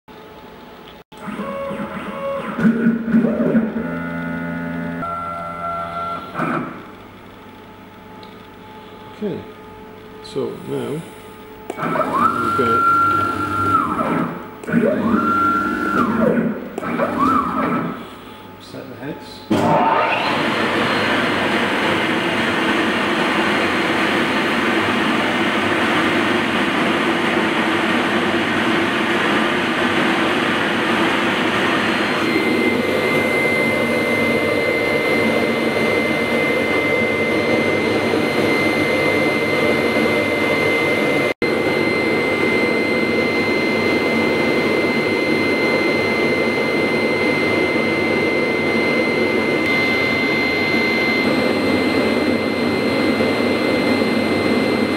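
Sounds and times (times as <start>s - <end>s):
steady high whine: 0.1s - 54.9s.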